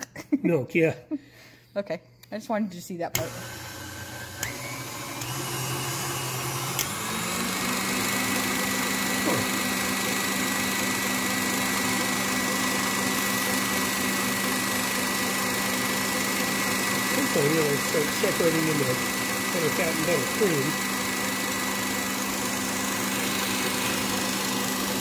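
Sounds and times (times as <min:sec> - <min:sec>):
stand mixer motor whipping cream: 0:03.1 - 0:25.0.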